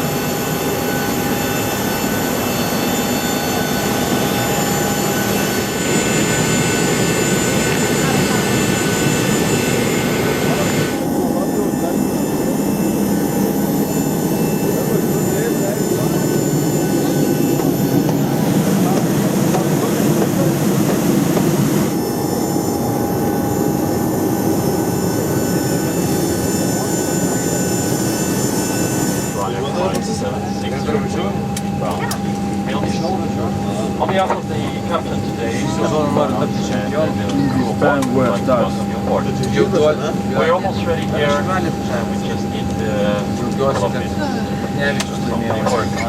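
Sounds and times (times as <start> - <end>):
airliner cabin air rush: 0.0 - 46.0
steady whining tones: 0.0 - 46.0.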